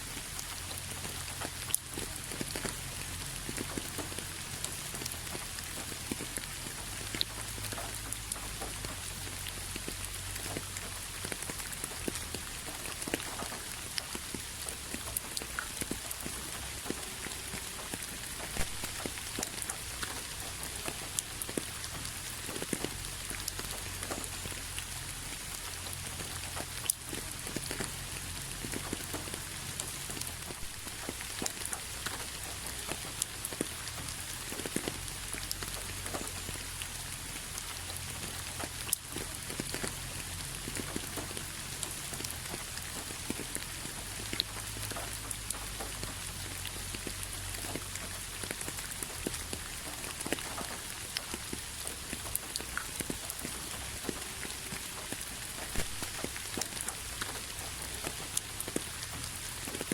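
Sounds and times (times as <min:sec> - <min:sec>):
hiss of rainfall: 0:00.0 - 0:59.9
rain drops clicking: 0:00.0 - 0:59.9.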